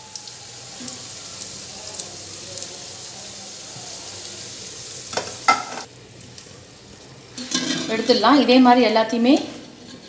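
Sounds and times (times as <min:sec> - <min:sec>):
food sizzling in hot oil: 0:00.0 - 0:08.1.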